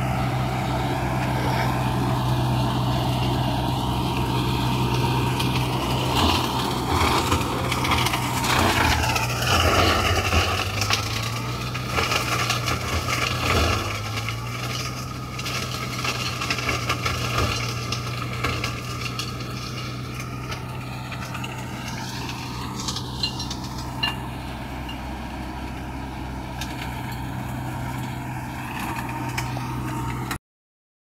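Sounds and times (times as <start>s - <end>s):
flail mower: 0.0s - 30.4s
tractor diesel engine running: 0.0s - 30.4s.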